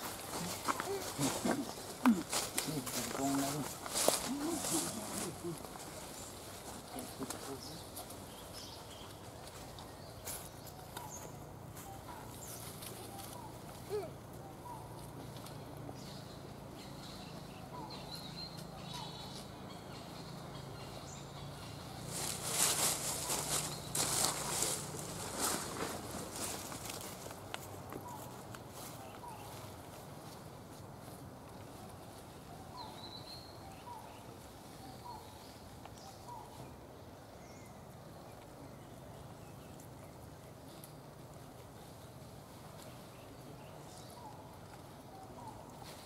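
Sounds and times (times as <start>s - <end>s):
rustling of dry leaves and grass: 0.0s - 46.0s
steady low hiss: 0.0s - 46.0s.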